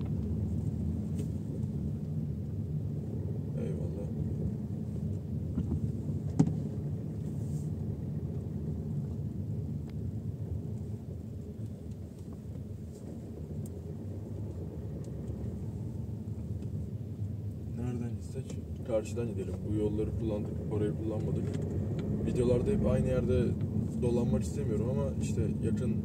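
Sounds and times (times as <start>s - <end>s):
road and engine rumble in car: 0.0s - 26.0s.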